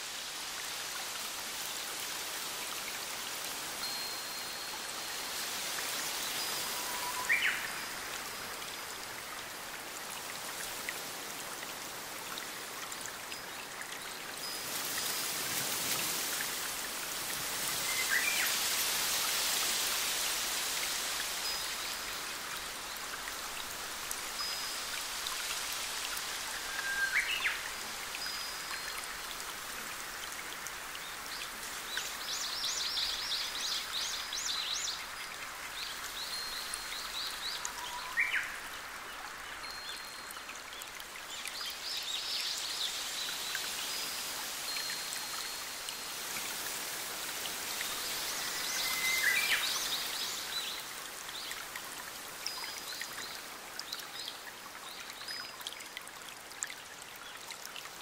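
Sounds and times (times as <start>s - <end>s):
stream rushing water: 0.0s - 58.0s.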